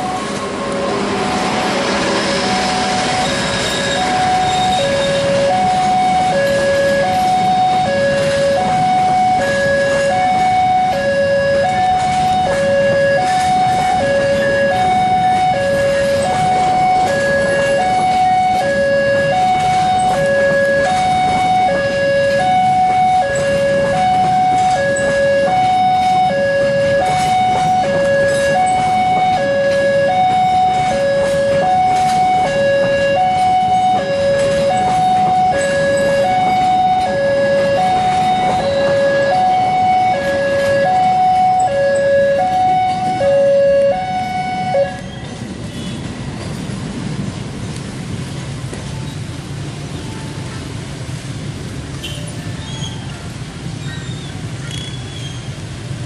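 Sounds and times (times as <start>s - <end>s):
two-tone crossing alarm: 0.0s - 45.9s
passing train rumble: 0.0s - 56.0s.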